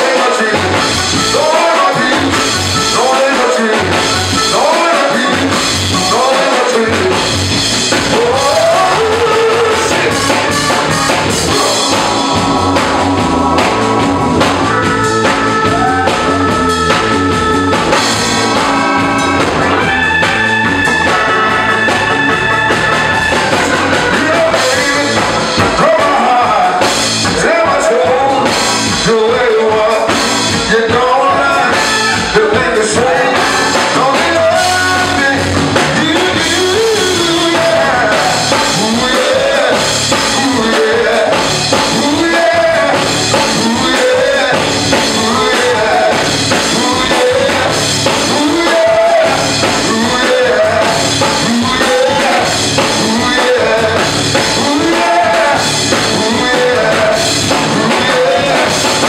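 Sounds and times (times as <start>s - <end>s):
lead vocal singing: 0.0s - 59.0s
rock band playing: 0.0s - 59.0s.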